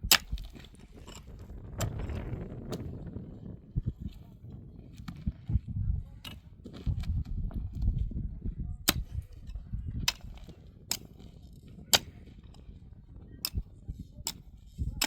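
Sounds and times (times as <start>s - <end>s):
low rumbling handling noise: 0.0s - 15.0s.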